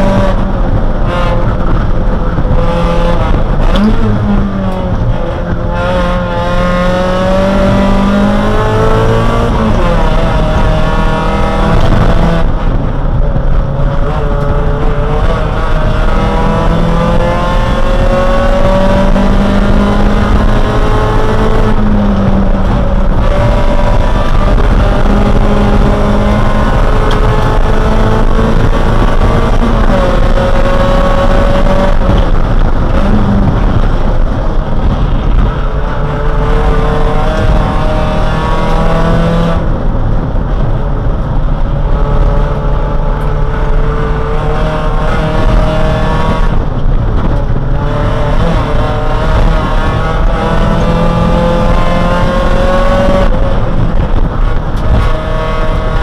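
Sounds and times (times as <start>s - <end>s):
race car engine revving: 0.0s - 56.0s
road and wind rumble: 0.0s - 56.0s.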